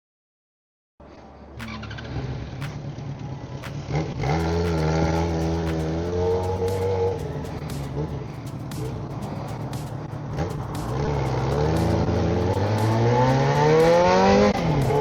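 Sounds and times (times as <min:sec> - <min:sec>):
motorcycle engine revving: 0:01.6 - 0:15.0.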